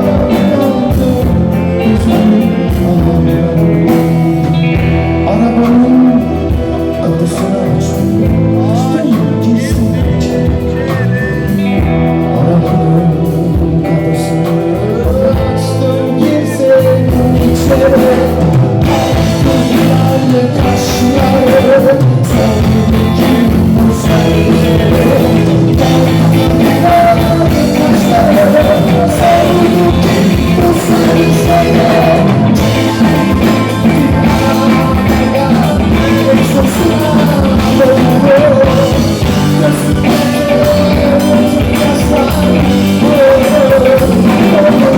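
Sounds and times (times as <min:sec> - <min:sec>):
person singing: 0:00.0 - 0:44.9
rock band playing live: 0:00.0 - 0:44.9.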